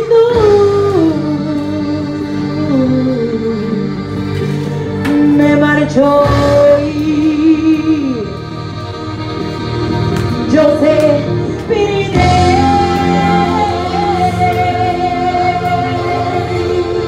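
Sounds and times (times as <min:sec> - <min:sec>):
woman singing wordless notes: 0:00.0 - 0:04.4, 0:05.0 - 0:08.6, 0:10.4 - 0:17.0
instrumental backing music: 0:00.0 - 0:17.0.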